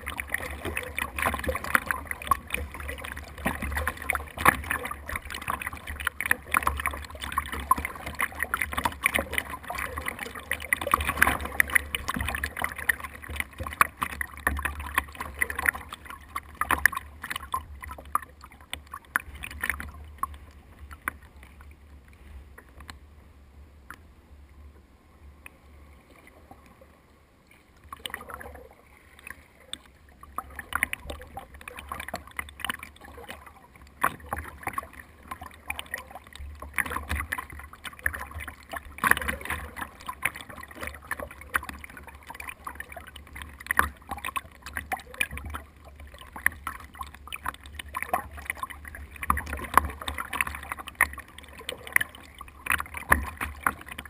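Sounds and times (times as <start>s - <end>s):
water splashing against boat: 0.0s - 24.1s, 25.1s - 54.0s
low steady rumble: 0.0s - 54.0s.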